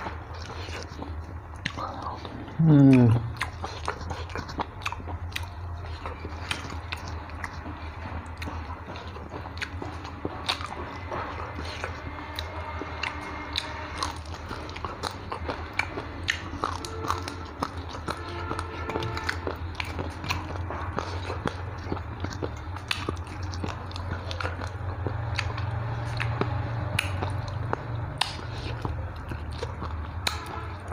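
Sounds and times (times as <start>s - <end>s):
person chewing and crunching food: 0.0s - 30.9s.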